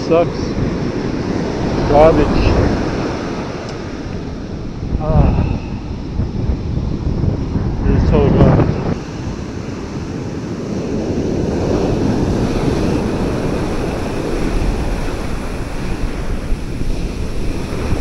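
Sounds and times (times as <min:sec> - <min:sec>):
ocean surf washing onto beach: 0:00.0 - 0:18.0
wind buffeting microphone: 0:00.0 - 0:18.0.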